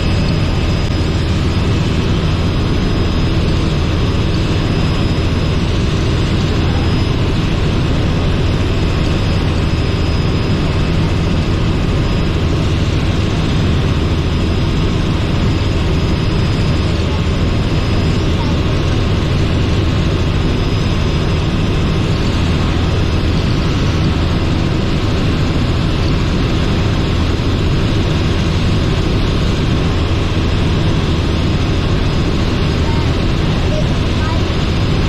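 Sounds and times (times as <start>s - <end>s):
helicopter engine and rotors: 0.0s - 35.0s.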